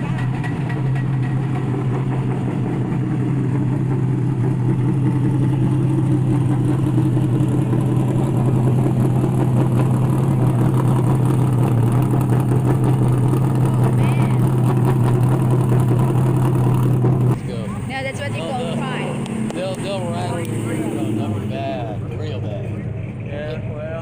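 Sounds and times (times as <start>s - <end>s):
car engine idling loudly: 0.0s - 24.0s.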